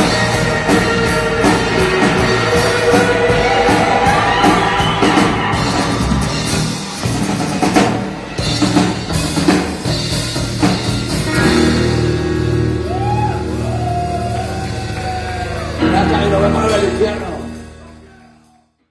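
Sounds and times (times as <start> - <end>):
loud band music: 0.0 - 18.8.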